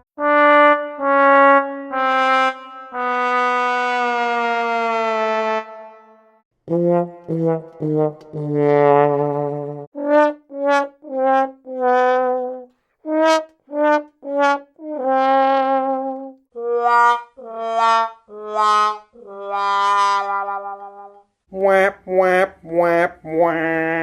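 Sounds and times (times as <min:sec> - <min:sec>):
descending brass fail notes: 0:00.2 - 0:24.0.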